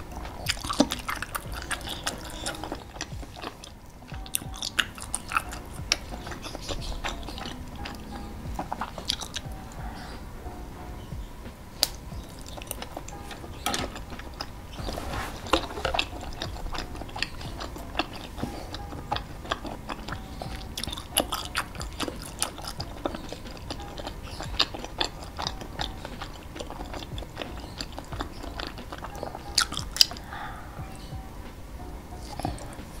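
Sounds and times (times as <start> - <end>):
wet chewing clicks and smacks: 0.0 - 10.1, 11.8 - 31.2.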